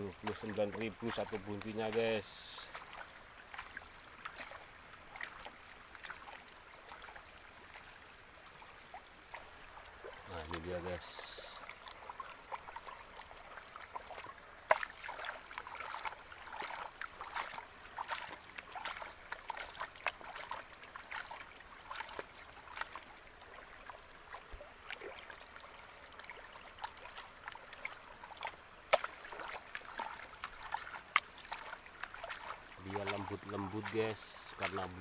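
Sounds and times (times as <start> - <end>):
water sloshing in a pan: 0.0 - 35.0.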